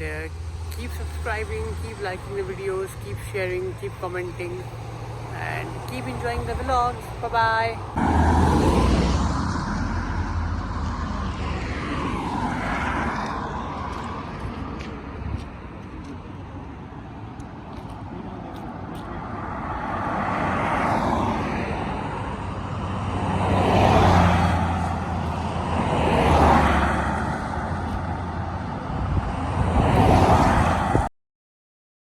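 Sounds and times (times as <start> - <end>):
cars passing: 0.0 - 31.1.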